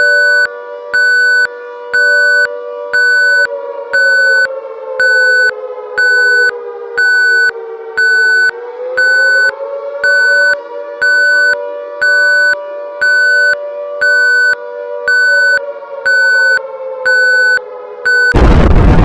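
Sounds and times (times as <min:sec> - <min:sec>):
electronic alert beep: 0:00.0 - 0:18.4.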